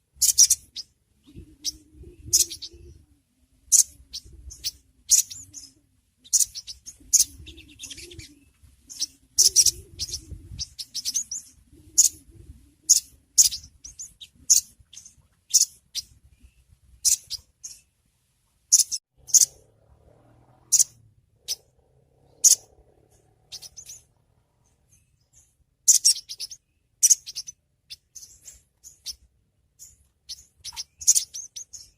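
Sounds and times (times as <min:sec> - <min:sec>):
bird high-pitched chirps: 0:00.2 - 0:17.9, 0:18.7 - 0:19.7, 0:20.6 - 0:31.9.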